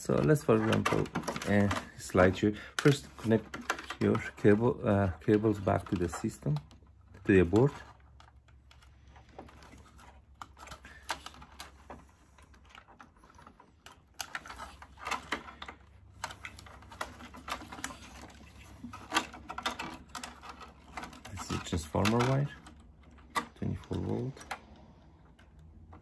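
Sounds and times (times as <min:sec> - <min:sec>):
plastic connectors clicking: 0:00.0 - 0:26.0.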